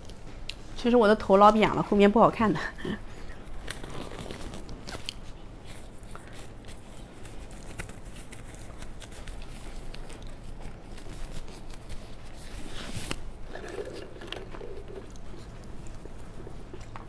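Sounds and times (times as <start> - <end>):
plastic gloves rustling and crinkling: 0.0 - 16.6.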